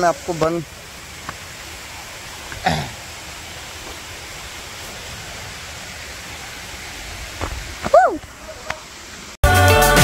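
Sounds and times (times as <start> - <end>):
falling water rushing: 0.0 - 9.4.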